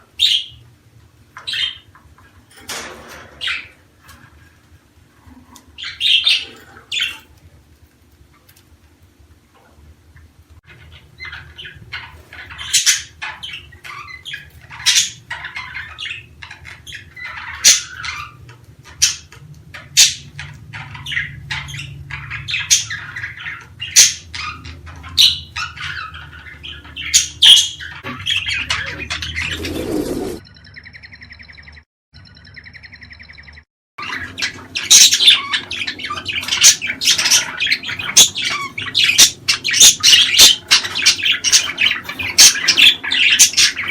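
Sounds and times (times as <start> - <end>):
budgerigars chirping and squawking: 0.0 - 7.5, 10.1 - 43.9.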